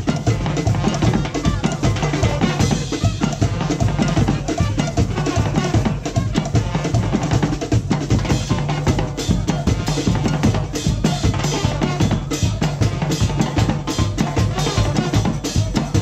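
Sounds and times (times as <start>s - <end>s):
drum band playing rhythm: 0.0s - 16.0s.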